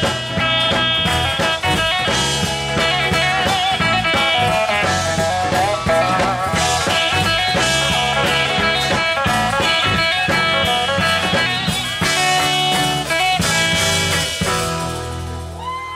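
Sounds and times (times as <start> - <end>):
steel guitar sliding notes: 0.0 - 15.6
drum kit: 0.0 - 15.9
electric bass: 0.0 - 15.9
electric lead guitar: 0.0 - 15.9.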